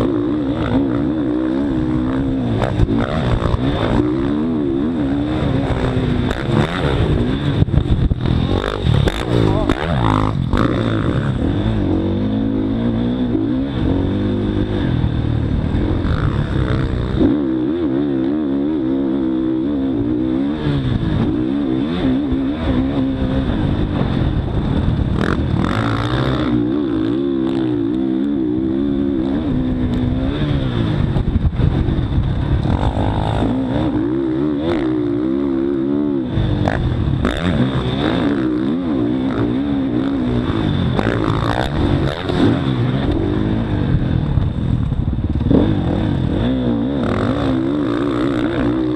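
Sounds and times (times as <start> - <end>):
dirt bike engine revving: 0.0 - 48.9
wind noise: 0.0 - 48.9.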